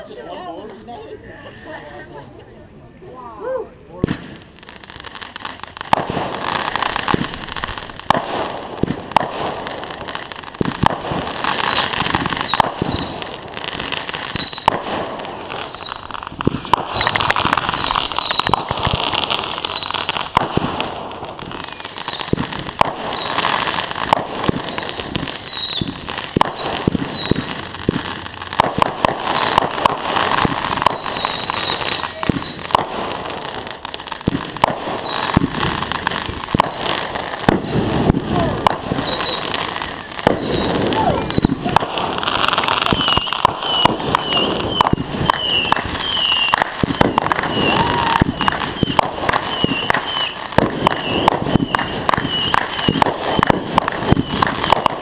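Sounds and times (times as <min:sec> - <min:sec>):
whistling fireworks: 0:01.5 - 0:55.0
fireworks bangs and crackling: 0:03.7 - 0:55.0.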